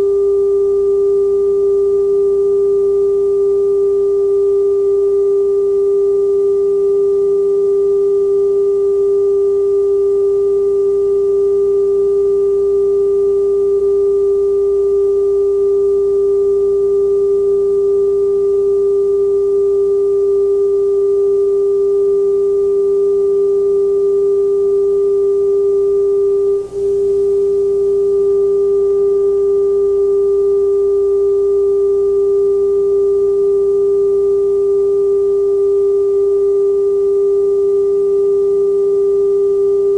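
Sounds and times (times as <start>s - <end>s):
steady test tone: 0.0s - 39.9s.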